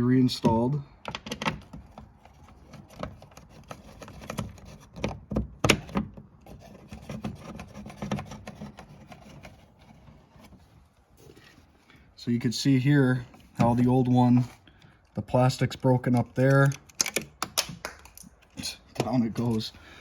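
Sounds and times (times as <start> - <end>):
plastic parts clicking and rubbing: 0.4 - 11.7, 13.3 - 19.7.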